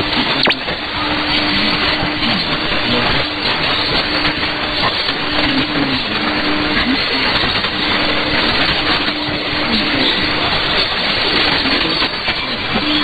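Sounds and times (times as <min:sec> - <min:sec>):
radio static and hiss: 0:00.0 - 0:13.0.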